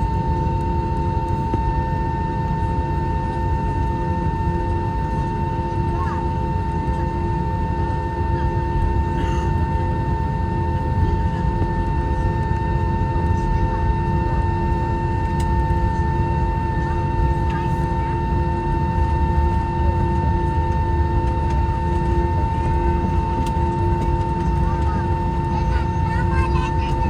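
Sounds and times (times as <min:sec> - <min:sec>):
jet engine idling: 0:00.0 - 0:27.0.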